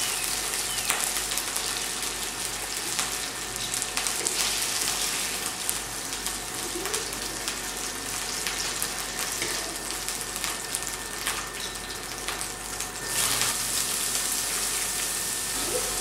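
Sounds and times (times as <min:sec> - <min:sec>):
onions sizzling in a frying pan: 0:00.0 - 0:16.0.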